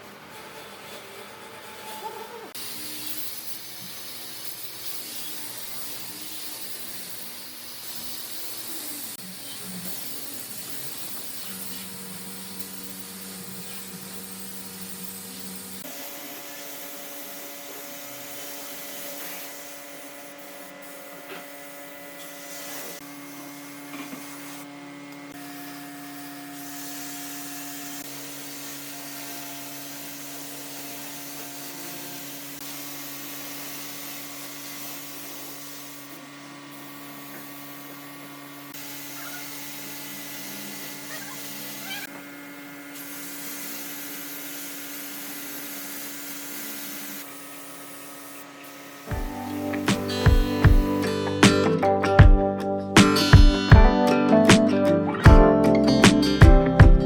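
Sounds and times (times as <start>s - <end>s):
power tool humming with high hiss: 0.0s - 54.7s.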